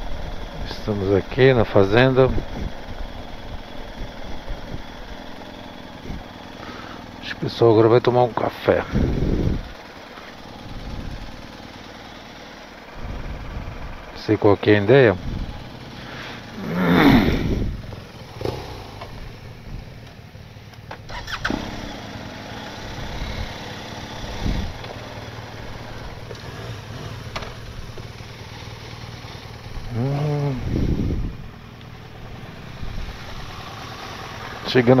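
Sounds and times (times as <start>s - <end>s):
motorcycle engines idling: 0.0s - 35.0s.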